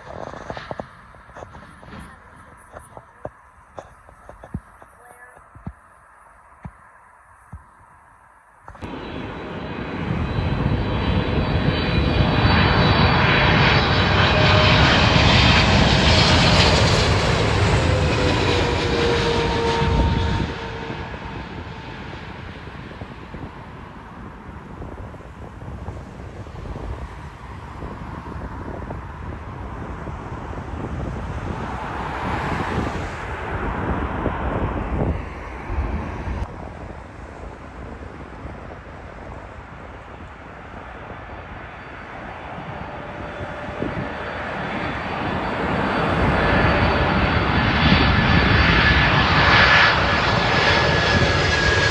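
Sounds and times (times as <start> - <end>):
jet engine whine falling in pitch: 0.0 - 5.6, 8.7 - 51.9
jet engines roaring past: 0.0 - 5.7, 8.7 - 51.9.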